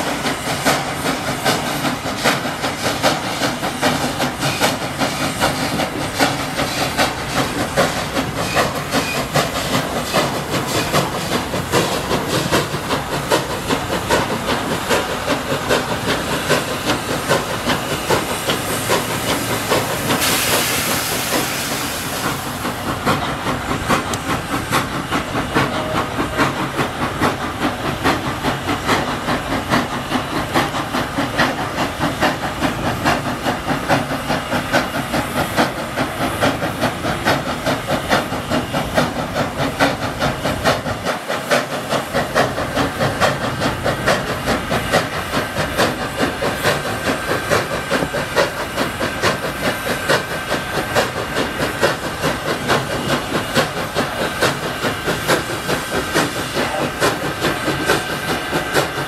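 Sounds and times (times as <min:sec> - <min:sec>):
steam locomotive hissing and chuffing: 0:00.0 - 0:59.0.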